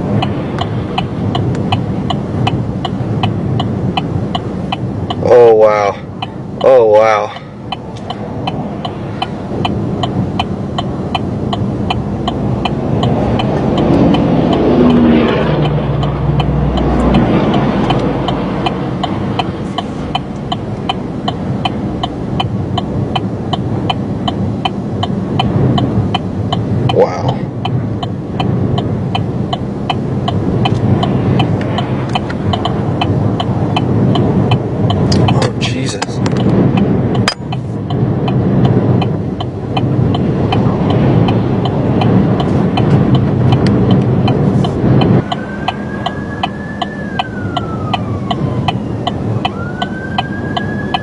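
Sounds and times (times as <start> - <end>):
steady ticking: 0.0 - 51.0
strong wind gusting: 7.5 - 51.0.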